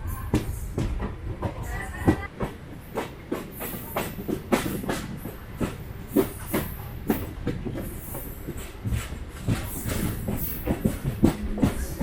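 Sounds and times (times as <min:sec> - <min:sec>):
train rumble: 0:00.0 - 0:12.0
train wheels clattering over rail joints: 0:00.3 - 0:12.0.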